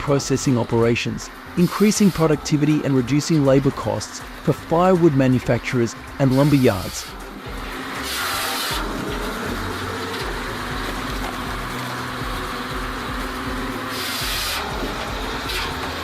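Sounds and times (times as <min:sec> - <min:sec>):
firewood processor running: 0:00.0 - 0:16.0
hissing burst: 0:01.3 - 0:16.0.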